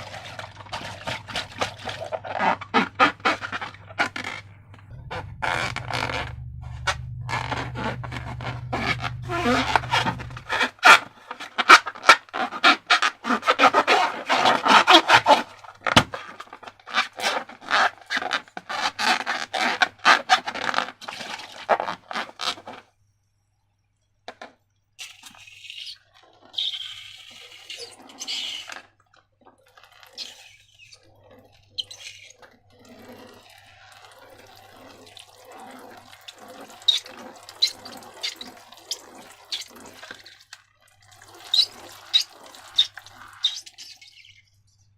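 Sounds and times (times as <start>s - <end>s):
slime squelching by hand: 0.0s - 18.2s, 25.0s - 44.5s.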